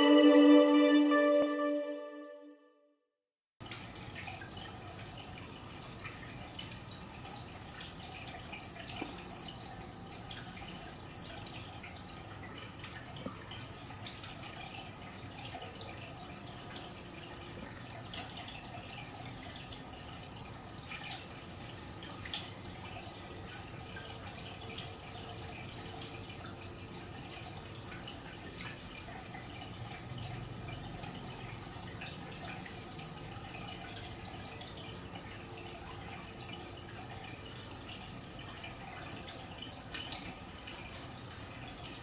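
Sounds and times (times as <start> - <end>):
aquarium water trickling: 3.6 - 42.0.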